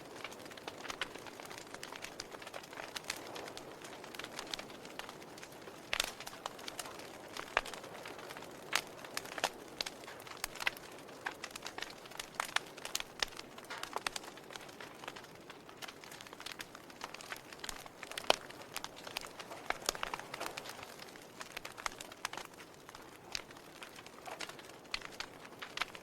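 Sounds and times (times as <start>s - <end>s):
burning wood popping and snapping: 0.0s - 26.0s
soft steady fire hiss: 0.0s - 26.0s.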